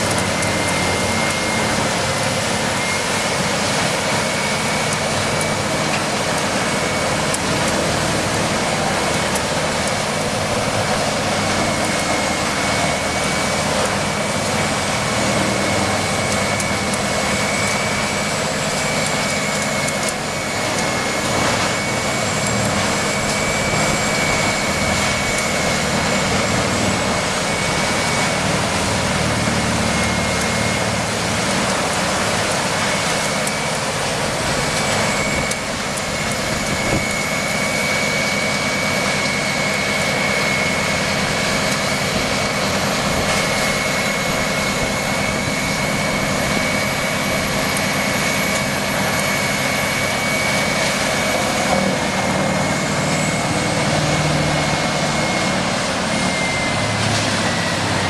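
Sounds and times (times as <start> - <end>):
heavy machine rushing noise: 0.0 - 58.0
high-pitched machine whine: 0.0 - 58.0.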